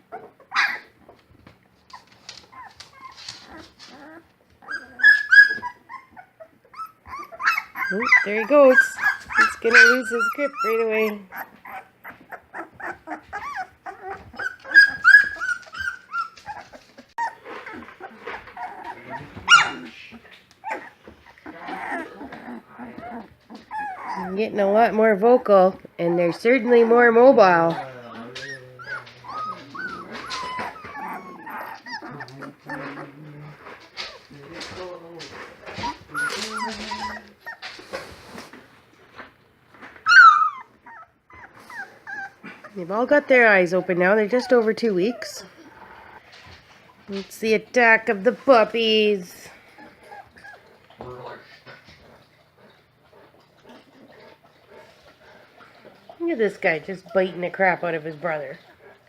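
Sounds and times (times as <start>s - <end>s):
puppies whining and squealing: 0.0s - 1.1s, 1.7s - 24.6s, 25.5s - 38.5s, 39.9s - 59.0s.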